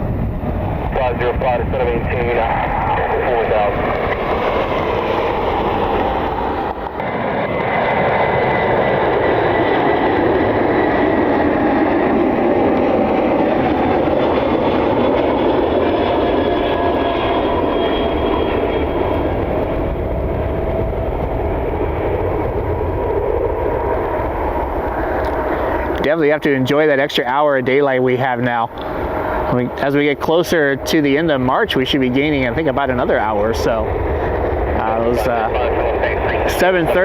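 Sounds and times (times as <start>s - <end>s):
jet engines loud rush: 0.0s - 37.0s
whining engine tones: 0.0s - 37.0s.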